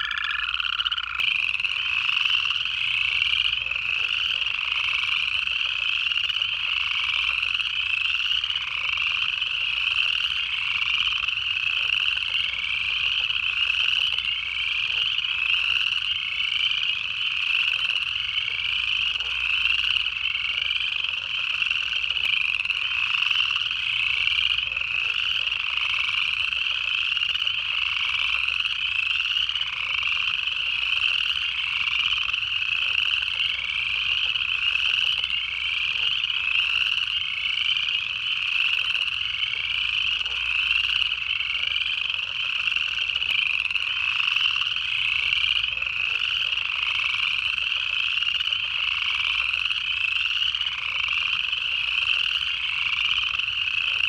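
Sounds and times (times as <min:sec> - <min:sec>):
frogs trilling in chorus: 0:00.0 - 0:54.0.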